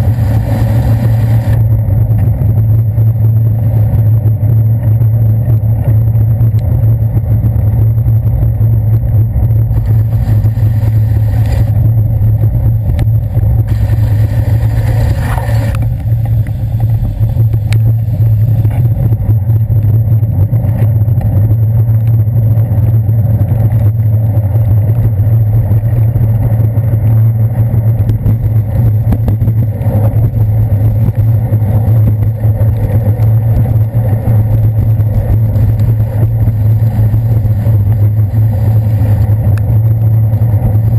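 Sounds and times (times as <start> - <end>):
city traffic rumble: 0.0 - 40.9.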